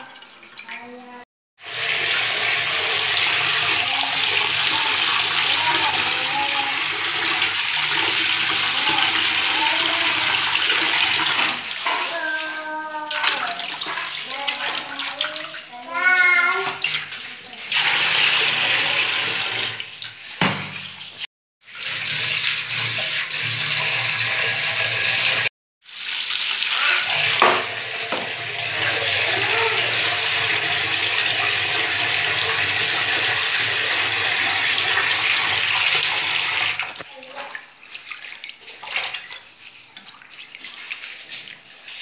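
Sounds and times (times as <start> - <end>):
running water pouring: 0.0 - 42.0.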